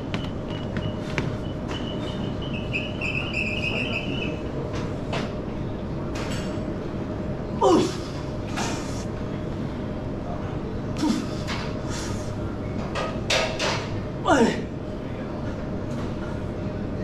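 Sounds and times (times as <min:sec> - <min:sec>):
gym background rush: 0:00.0 - 0:17.0.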